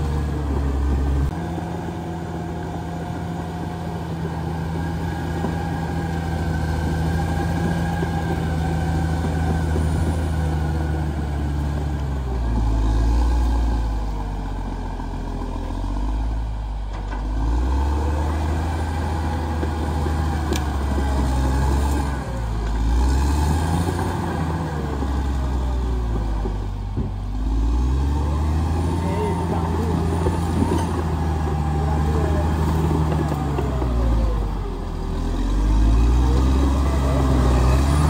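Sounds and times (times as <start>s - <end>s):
bulldozer diesel engine working: 0.0s - 38.0s.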